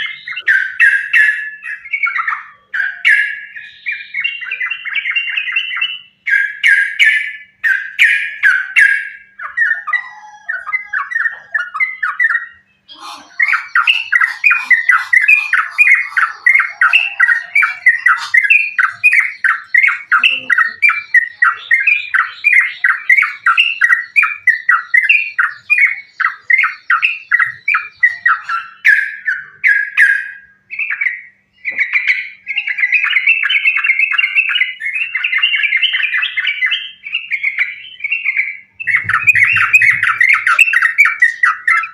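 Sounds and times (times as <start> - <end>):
bird chattering song: 0.0 - 41.9.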